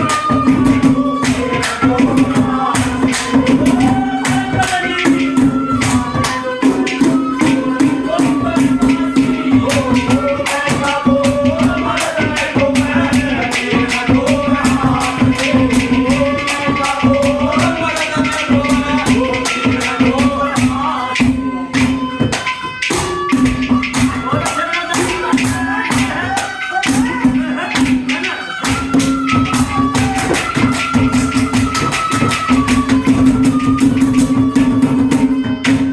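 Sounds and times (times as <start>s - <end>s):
hand drum beat: 0.0s - 35.9s
instrumental folk music: 0.0s - 35.9s
jingling percussion: 0.0s - 35.9s.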